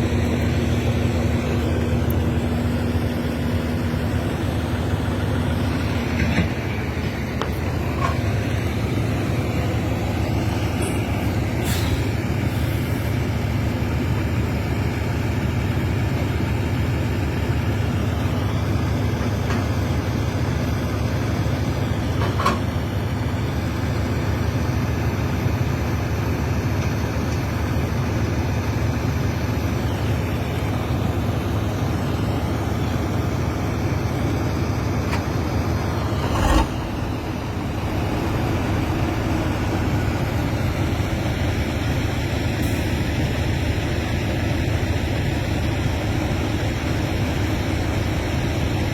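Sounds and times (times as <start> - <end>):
heavy diesel engines running: 0.0 - 48.9.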